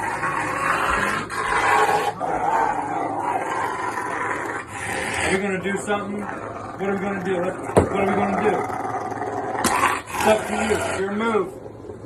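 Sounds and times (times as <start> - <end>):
dog growling and snarling: 0.0 - 12.0.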